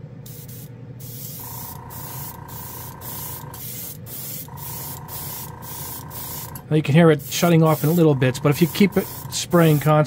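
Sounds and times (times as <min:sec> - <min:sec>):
compressor humming: 0:00.0 - 0:10.0
airbrush hissing: 0:00.3 - 0:10.0
steady whine: 0:01.3 - 0:10.0.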